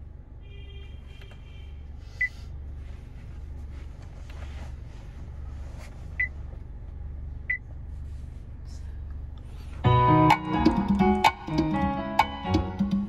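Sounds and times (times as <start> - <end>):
low hum in car cabin: 0.0 - 13.0.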